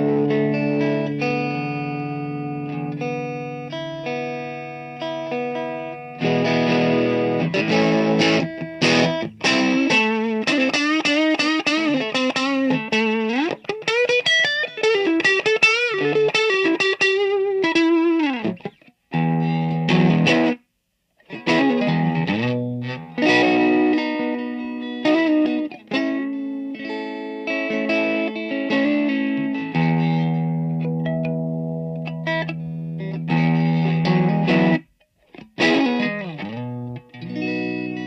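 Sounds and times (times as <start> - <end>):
distorted electric guitar: 0.0 - 38.0.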